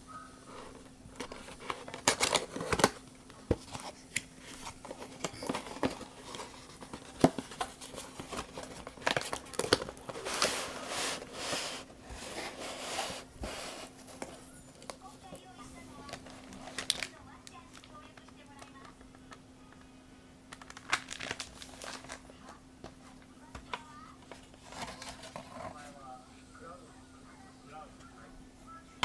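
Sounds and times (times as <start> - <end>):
faint steady hum: 0.0 - 29.0
crinkly rustles: 0.5 - 19.4, 20.5 - 23.3, 24.2 - 26.0.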